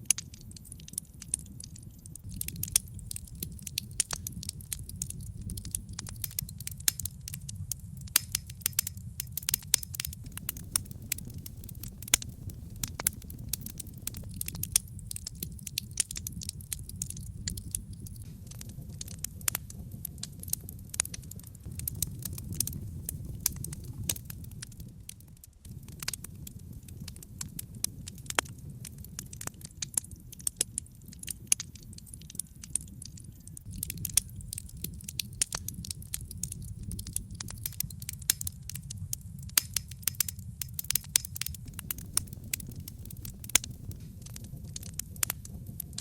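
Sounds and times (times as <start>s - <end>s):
logs crackling and popping: 0.0s - 46.0s
low rumble of flames: 0.0s - 46.0s.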